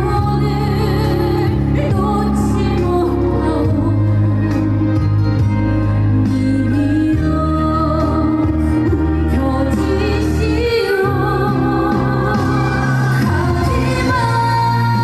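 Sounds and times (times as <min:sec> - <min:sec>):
woman singing: 0:00.0 - 0:04.8, 0:06.1 - 0:15.0
band with bass line: 0:00.0 - 0:15.0.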